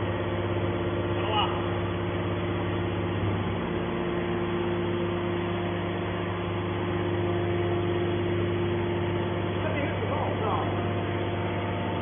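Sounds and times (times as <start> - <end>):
hydraulic power unit humming: 0.0 - 12.0.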